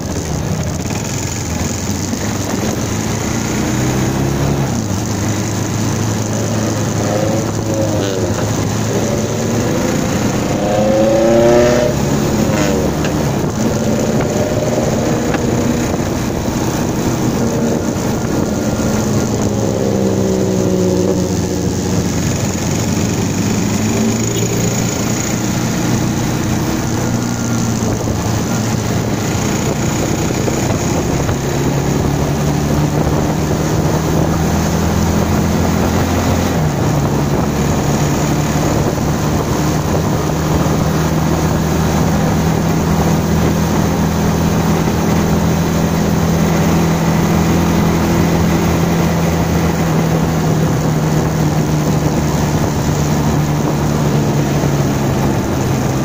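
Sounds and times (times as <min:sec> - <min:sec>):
motorcycle engine accelerating: 0:00.0 - 0:56.0
wind noise on microphone: 0:00.0 - 0:56.0.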